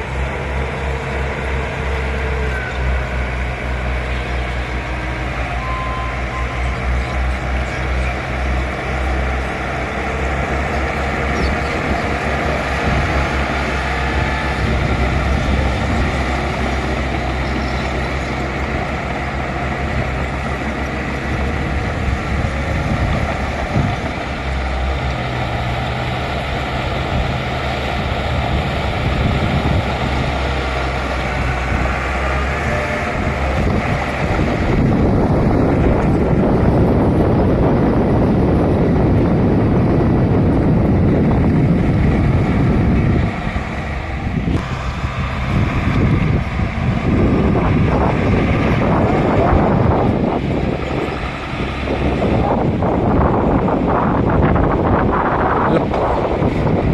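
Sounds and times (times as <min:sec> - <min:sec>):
bulldozer diesel engine: 0:00.0 - 0:56.9.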